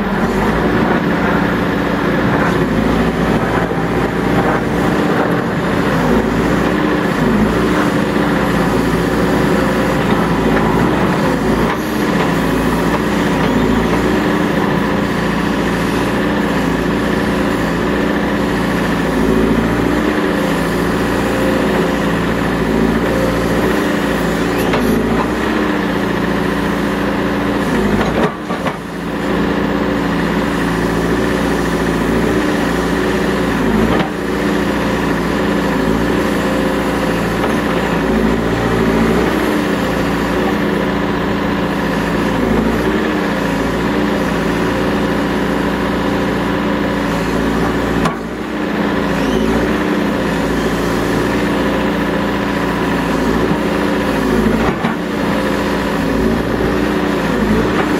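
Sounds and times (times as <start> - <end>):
diesel engine under load: 0.0 - 57.9.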